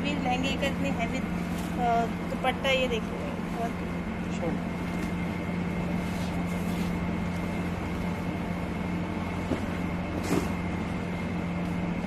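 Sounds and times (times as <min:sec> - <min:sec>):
mechanical hum with faint whine: 0:00.0 - 0:12.0.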